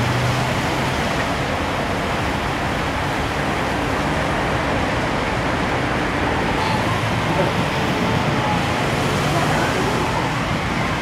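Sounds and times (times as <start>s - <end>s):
cars driving through water: 0.0s - 11.0s
floodwater rushing across street: 0.0s - 11.0s.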